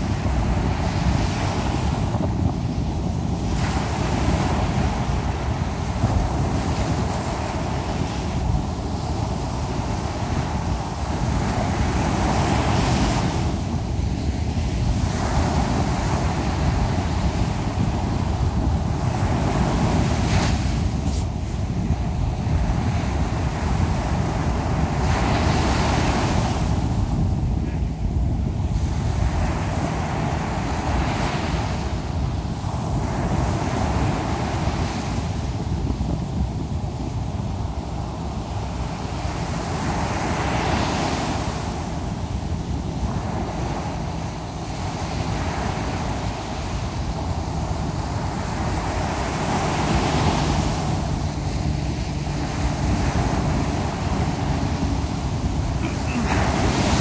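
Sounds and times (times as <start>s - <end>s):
ocean surf breaking on beach: 0.0s - 57.0s
wind rumble on microphone: 0.0s - 57.0s.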